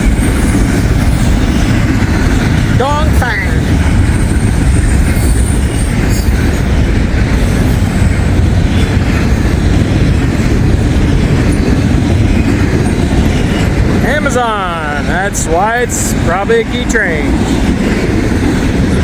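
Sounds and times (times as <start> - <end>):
freight train wheels clattering on rail: 0.0 - 19.0.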